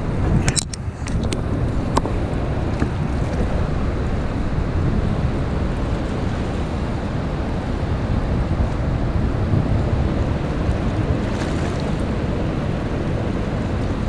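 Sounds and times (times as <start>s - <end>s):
choppy river water rushing: 0.0s - 14.0s
wind buffeting the microphone: 0.0s - 14.0s.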